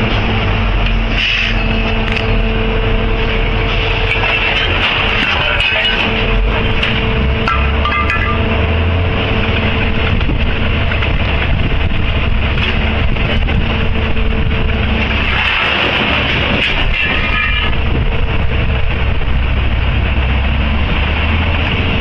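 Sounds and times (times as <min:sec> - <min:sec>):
heavy machine engine rumbling: 0:00.0 - 0:22.0
steady hum: 0:00.0 - 0:22.0.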